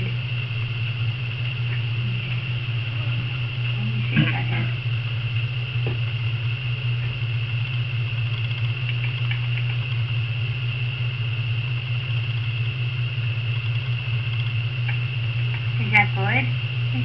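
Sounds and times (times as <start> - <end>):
high-pitched whine: 0.0 - 17.0
low hum: 0.0 - 17.0.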